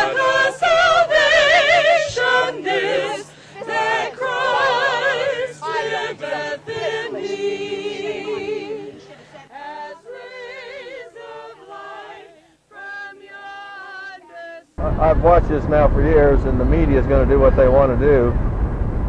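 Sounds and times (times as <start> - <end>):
group singing a hymn unaccompanied: 0.0 - 15.4.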